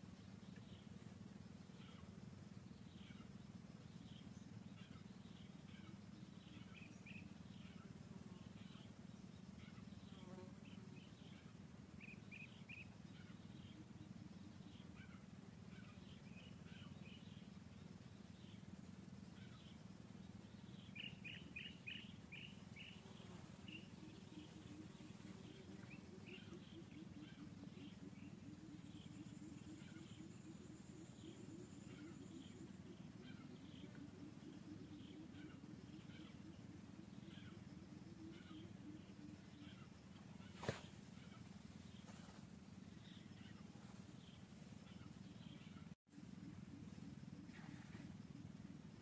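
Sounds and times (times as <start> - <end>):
faint birds chirping: 0.0 - 49.0
low background hum: 0.0 - 49.0.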